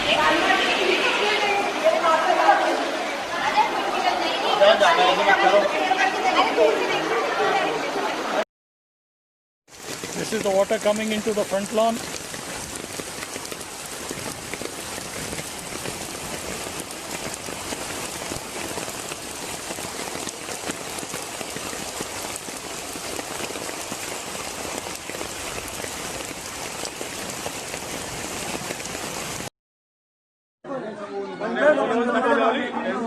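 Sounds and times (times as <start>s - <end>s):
heavy rain pouring: 0.0s - 8.4s, 9.7s - 29.5s.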